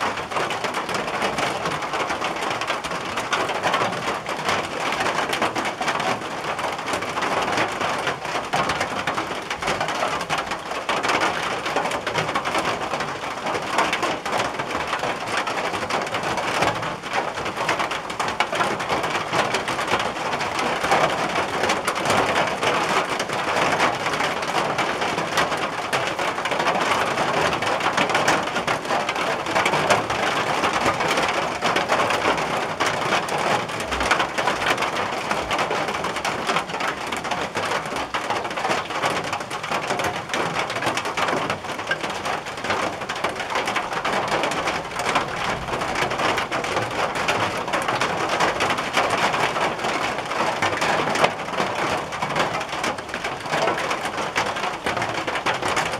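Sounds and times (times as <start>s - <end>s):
heavy rain on a tin roof: 0.0s - 55.9s.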